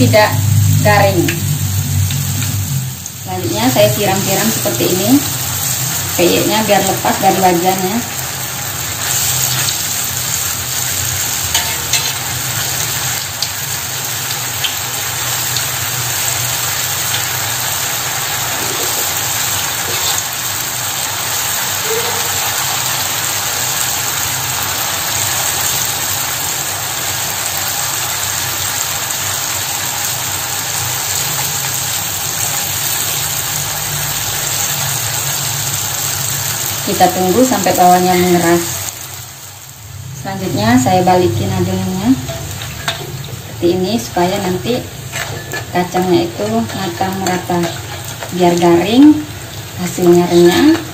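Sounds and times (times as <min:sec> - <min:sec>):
batter deep-frying in oil: 0:00.0 - 0:50.9.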